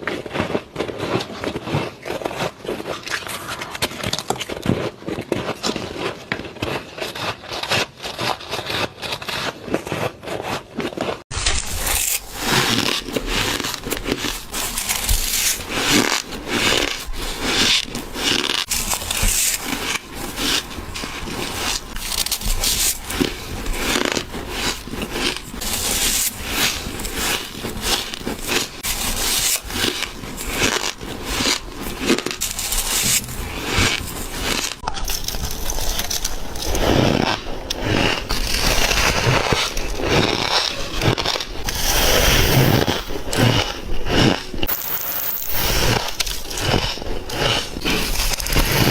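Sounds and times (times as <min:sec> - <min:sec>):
teeth crunching ice: 0:00.0 - 0:48.9.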